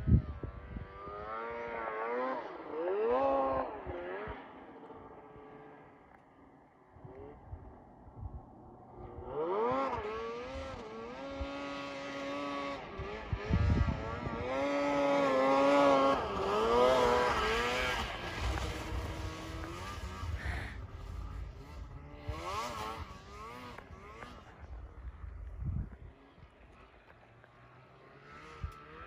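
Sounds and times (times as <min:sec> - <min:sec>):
snowmobile engine revving: 0:00.0 - 0:06.0, 0:08.6 - 0:29.0.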